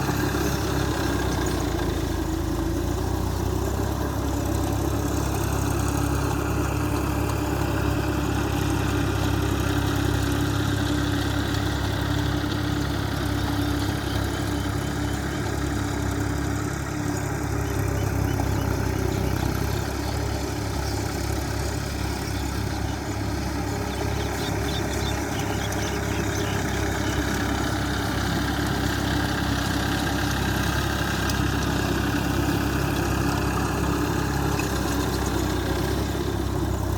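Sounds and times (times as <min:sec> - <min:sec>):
tractor diesel engine droning: 0:00.0 - 0:36.9.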